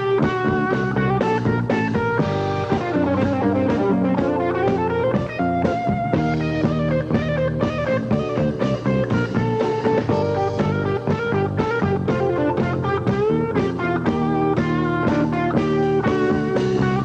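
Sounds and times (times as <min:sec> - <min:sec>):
band playing: 0:00.0 - 0:17.0
electric guitar: 0:00.0 - 0:17.0.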